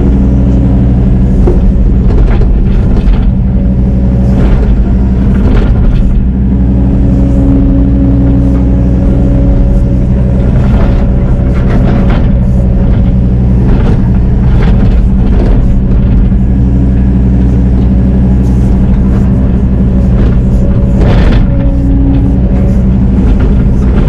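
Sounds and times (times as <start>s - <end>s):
excavator diesel engine running: 0.0s - 24.0s
knocks and clatter of digging: 1.2s - 6.4s, 7.7s - 16.6s, 17.4s - 24.0s.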